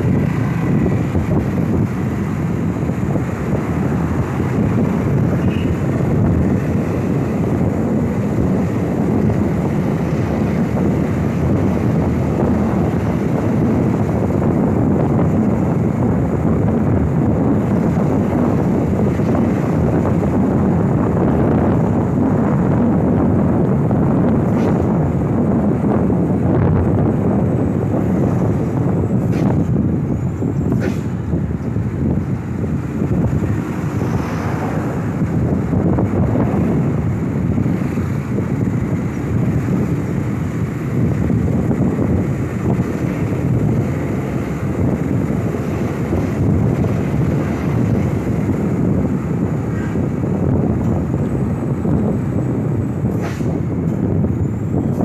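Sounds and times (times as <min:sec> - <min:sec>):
bus diesel engine running hard: 0:00.0 - 0:55.0
road traffic rumble: 0:00.0 - 0:55.0
wind buffeting microphone: 0:00.0 - 0:55.0.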